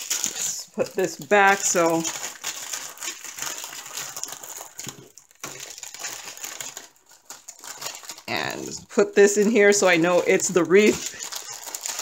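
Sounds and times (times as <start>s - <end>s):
plastic bags crinkling: 0.0s - 12.0s
small packets rattling: 0.0s - 12.0s.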